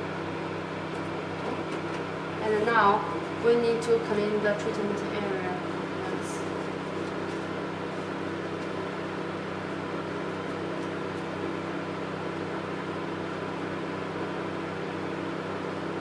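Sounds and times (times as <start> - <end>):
cooling system hum: 0.0 - 16.0.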